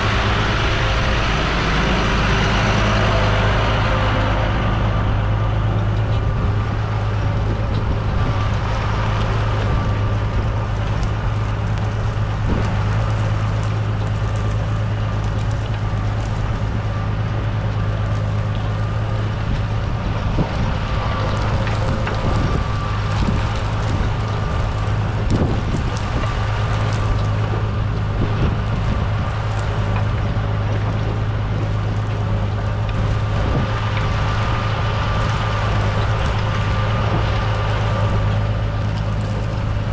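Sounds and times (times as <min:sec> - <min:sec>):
wind on microphone: 0:00.0 - 0:14.5, 0:18.7 - 0:38.4
tractor diesel engine drone: 0:00.0 - 0:39.9.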